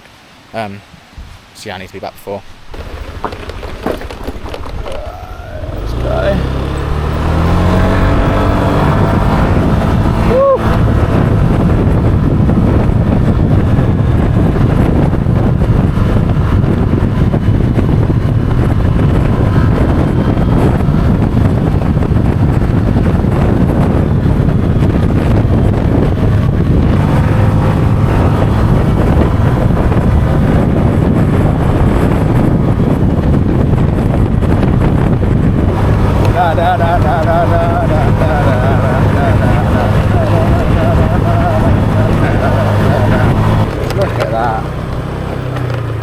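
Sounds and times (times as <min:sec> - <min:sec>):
wind buffeting microphone: 0:00.9 - 0:46.0
motorbike engine running: 0:02.7 - 0:46.0.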